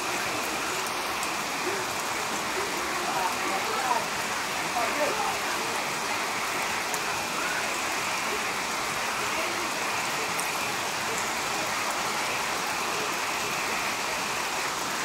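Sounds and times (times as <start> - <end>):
rain on trees and grass: 0.0 - 15.0.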